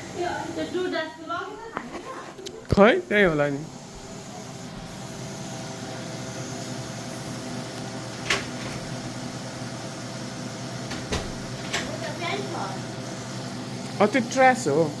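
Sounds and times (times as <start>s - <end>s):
appliance motor humming: 0.0s - 15.0s.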